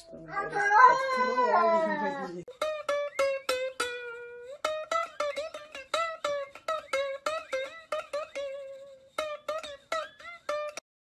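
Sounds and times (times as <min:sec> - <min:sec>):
plucked melody: 0:00.0 - 0:10.8.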